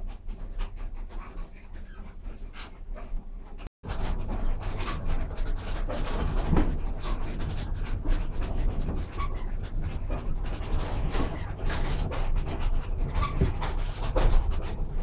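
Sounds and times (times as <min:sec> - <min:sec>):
machinery knocking and swishing: 0:00.0 - 0:15.0.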